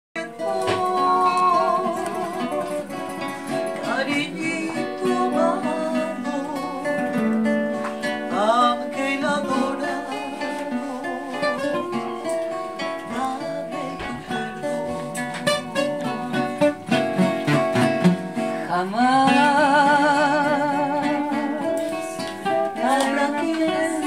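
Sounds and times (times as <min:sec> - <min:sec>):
plucked acoustic guitar: 0:00.2 - 0:24.0
small strummed string instrument: 0:00.2 - 0:24.0
woman singing with vibrato: 0:00.2 - 0:24.0.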